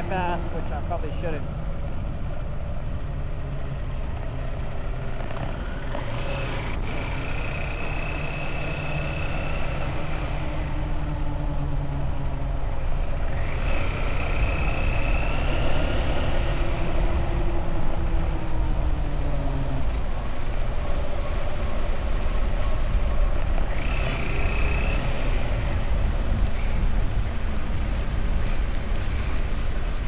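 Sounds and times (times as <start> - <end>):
high engine whine: 0.0 - 30.0
road and wind noise: 0.0 - 30.0
motorbike engine running: 1.8 - 30.0.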